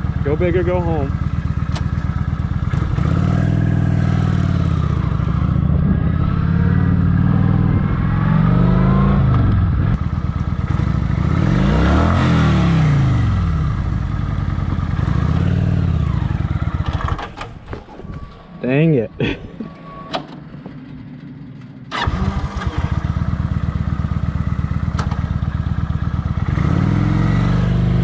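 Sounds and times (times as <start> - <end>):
motorcycle engine revving: 0.0 - 17.5, 20.6 - 28.0.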